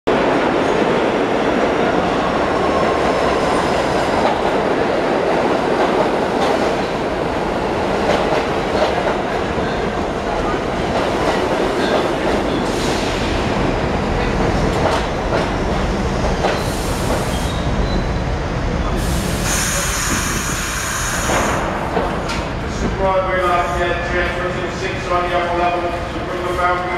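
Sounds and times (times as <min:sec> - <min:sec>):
train wheels rumbling on rail: 0:00.1 - 0:26.9.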